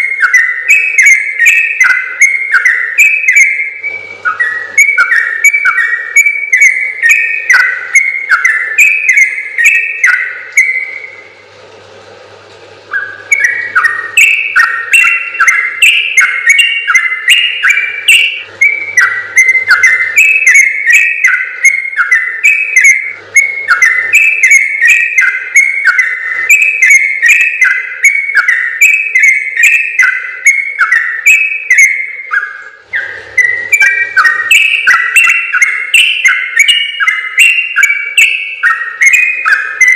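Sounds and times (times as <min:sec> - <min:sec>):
bird whistling song: 0:00.0 - 0:11.4, 0:12.8 - 0:39.9.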